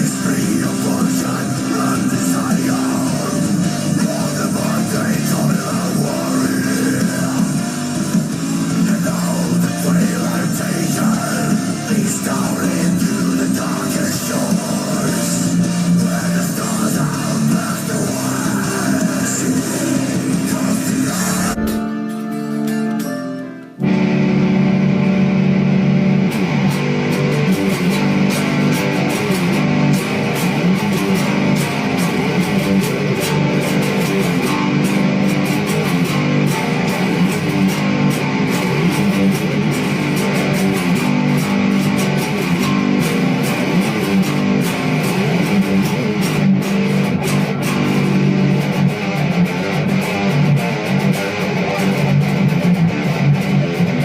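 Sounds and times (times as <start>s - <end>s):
electric guitar music: 0.0s - 54.0s.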